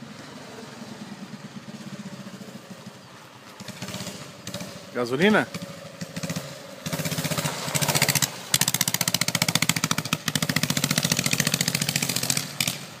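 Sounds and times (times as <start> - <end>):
kart engine under throttle: 0.0 - 13.0.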